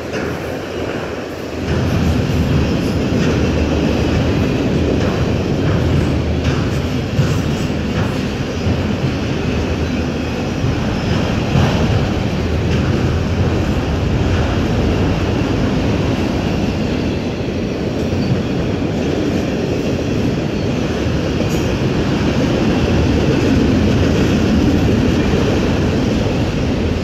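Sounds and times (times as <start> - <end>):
train wheels rolling on rails: 0.0 - 27.0.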